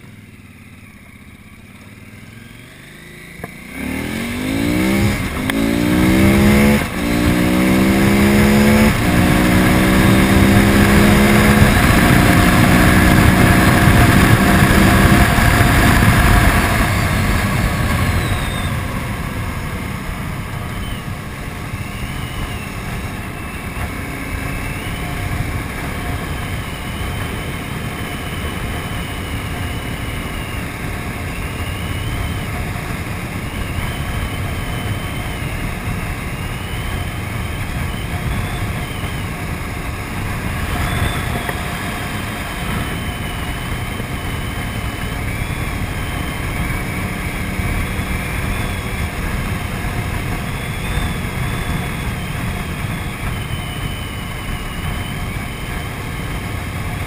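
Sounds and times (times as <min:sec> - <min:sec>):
motorcycle engine cruising: 0:00.0 - 0:57.0
wind rushing over microphone: 0:03.8 - 0:57.0.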